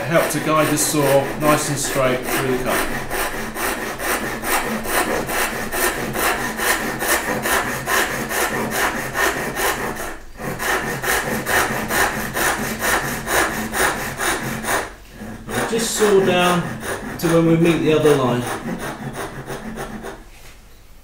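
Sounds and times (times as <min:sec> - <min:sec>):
hand saw cutting wood: 0:00.0 - 0:20.3.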